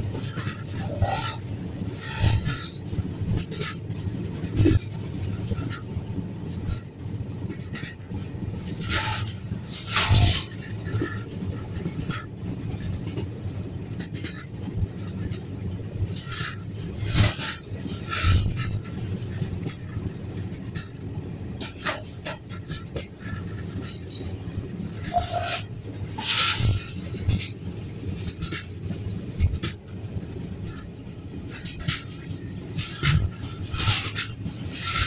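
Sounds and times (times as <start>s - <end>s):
train clanks and rattles: 0.0s - 35.0s
train wheels rumbling: 0.0s - 35.0s.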